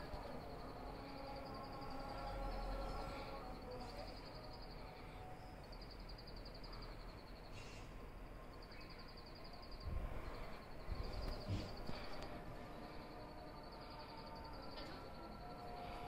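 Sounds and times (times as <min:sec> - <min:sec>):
night insects trilling: 0:00.0 - 0:16.0
steady outdoor hiss: 0:00.0 - 0:16.0.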